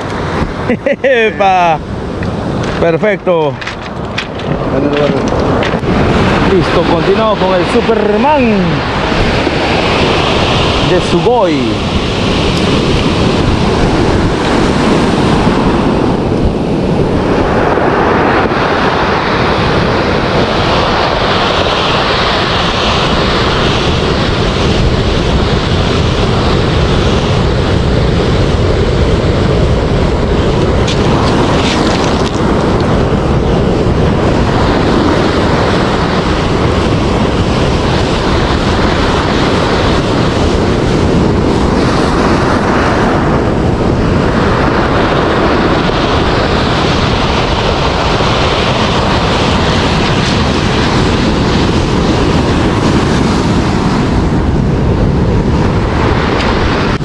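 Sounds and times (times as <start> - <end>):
wind buffeting microphone: 0.0 - 57.0
surf breaking on pebble beach: 0.1 - 57.0.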